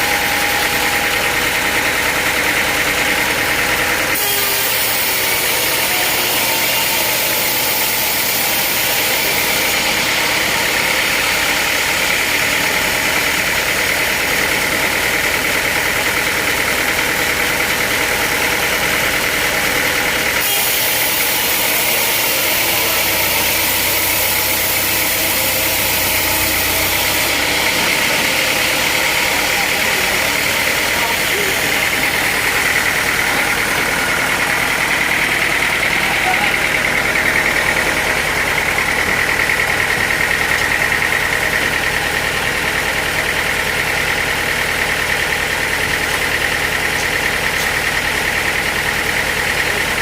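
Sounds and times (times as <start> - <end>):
sawmill machinery running: 0.0 - 50.0.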